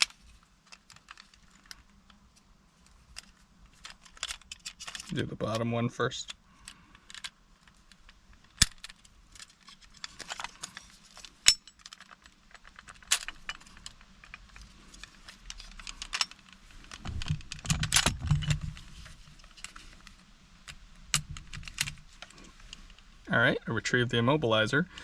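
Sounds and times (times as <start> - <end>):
scraping and handling noise: 0.0 - 25.0.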